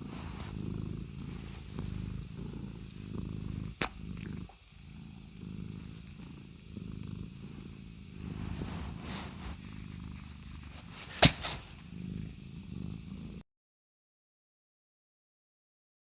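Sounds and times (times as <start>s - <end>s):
cat purring: 0.0s - 13.4s.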